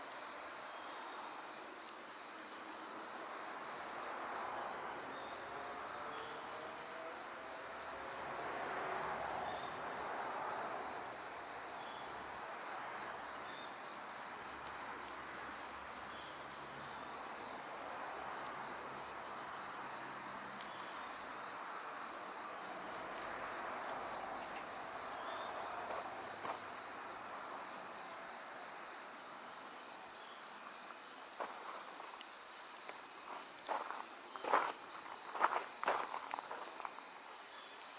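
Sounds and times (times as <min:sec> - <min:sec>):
campfire hissing: 0:00.0 - 0:37.9
crickets and night insects trilling: 0:00.0 - 0:37.9.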